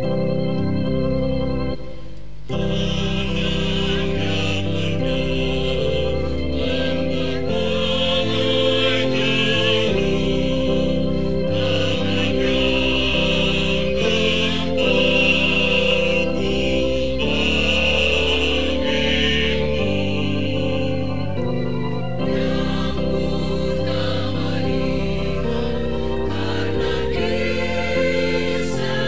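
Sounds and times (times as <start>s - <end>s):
choir singing a hymn: 2.5s - 29.0s.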